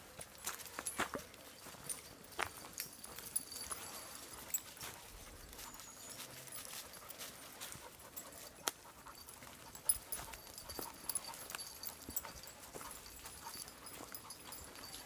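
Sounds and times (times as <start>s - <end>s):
footsteps on leafy dirt path: 0.0s - 15.0s
dog panting: 2.7s - 15.0s.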